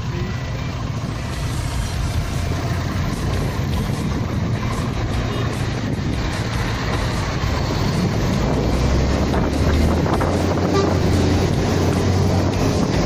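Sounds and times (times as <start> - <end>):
traffic on wet road: 0.0 - 13.0
truck rumbling: 0.0 - 13.0
wind rushing over microphone: 0.7 - 13.0.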